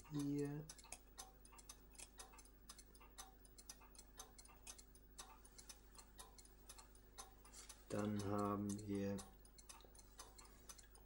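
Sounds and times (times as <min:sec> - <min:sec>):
clock ticking fast: 0:00.0 - 0:11.0
low mains hum: 0:00.0 - 0:11.0.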